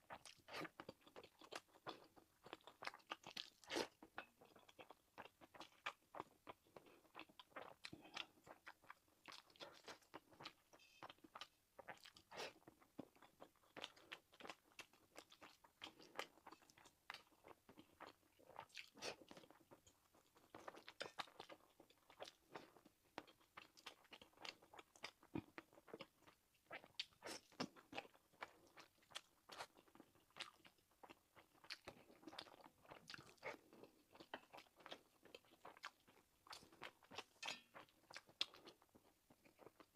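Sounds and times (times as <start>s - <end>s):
close chewing crunches: 0.0s - 39.9s.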